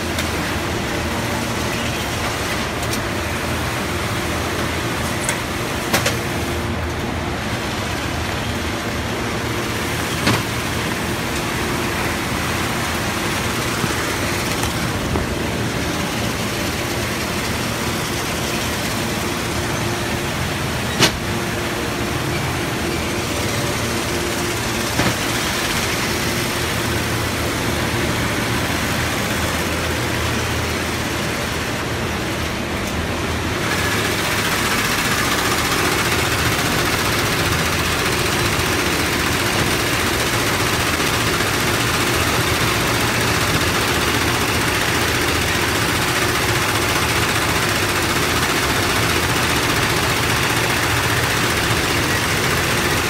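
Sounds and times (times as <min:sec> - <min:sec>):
sewing machines running: 0:00.0 - 0:53.0.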